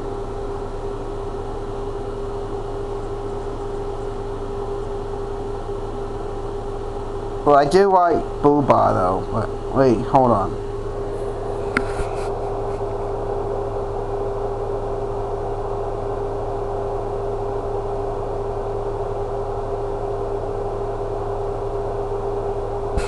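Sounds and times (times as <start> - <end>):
room hum with droning tone: 0.0 - 23.0.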